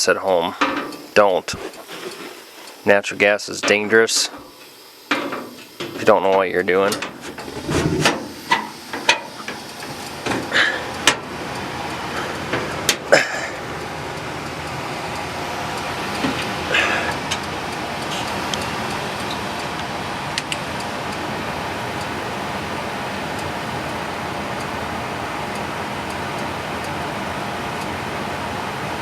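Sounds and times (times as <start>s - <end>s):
furnace rushing hum: 0.0s - 29.0s.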